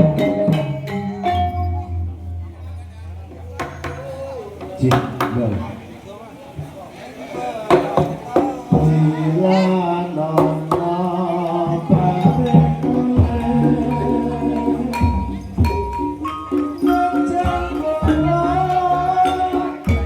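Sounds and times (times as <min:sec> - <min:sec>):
tuned percussion notes: 0:00.0 - 0:05.7, 0:07.7 - 0:20.0
drum strokes: 0:00.0 - 0:05.9, 0:07.7 - 0:20.0.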